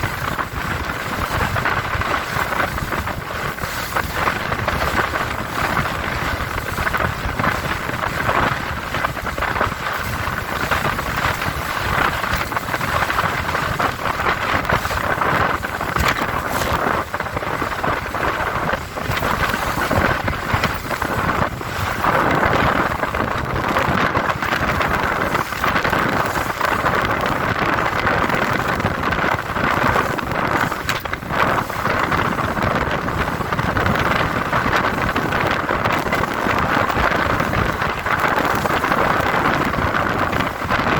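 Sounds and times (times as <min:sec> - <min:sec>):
boat engine: 0:00.0 - 0:40.9
water rushing along hull: 0:00.0 - 0:40.9
wind buffeting microphone: 0:00.0 - 0:40.9.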